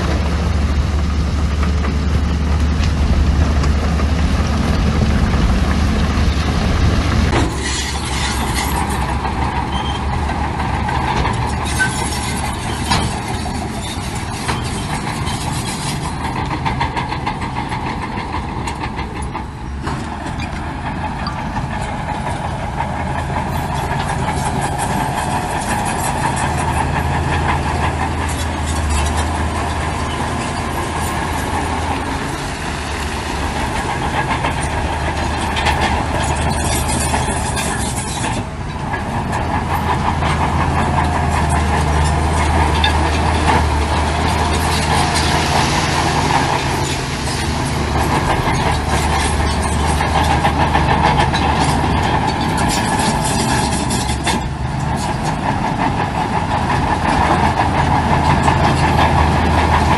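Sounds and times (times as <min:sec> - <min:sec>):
diesel engine: 0:00.0 - 0:59.9
machinery clatter: 0:00.0 - 0:59.9.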